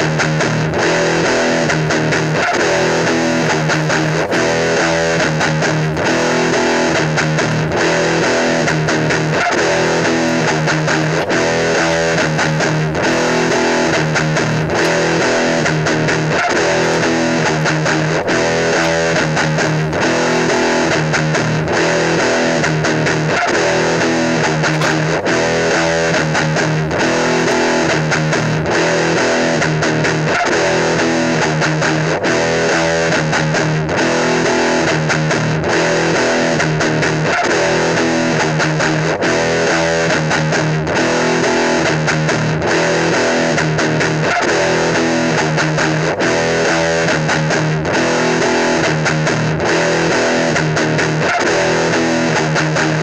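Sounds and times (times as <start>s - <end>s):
rock music: 0.0s - 53.0s.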